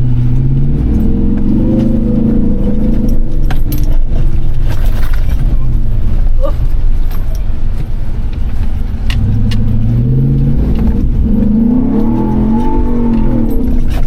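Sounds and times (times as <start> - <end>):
truck clicks and rattles: 0.0 - 14.0
truck engine under throttle: 0.0 - 14.0.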